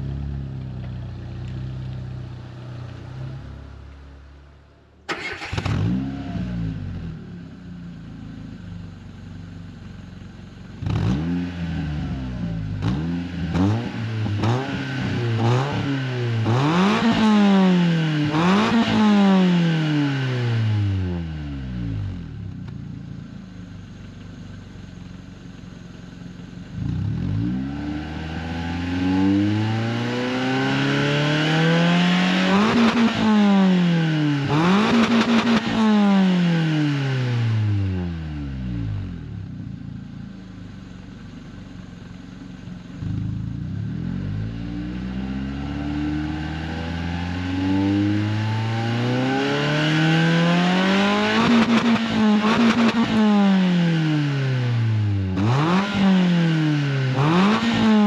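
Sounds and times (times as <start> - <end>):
car engine revving from idle: 5.1 - 8.7, 10.2 - 22.3, 25.8 - 58.0.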